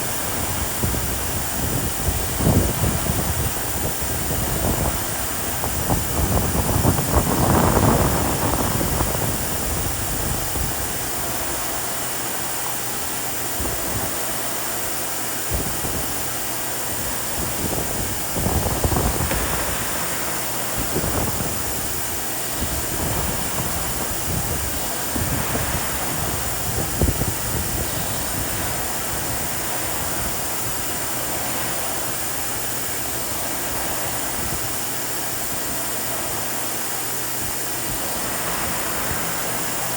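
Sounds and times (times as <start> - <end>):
wind on microphone: 0.0 - 12.2, 15.5 - 39.9
vacuum cleaner motor whine: 0.0 - 39.9.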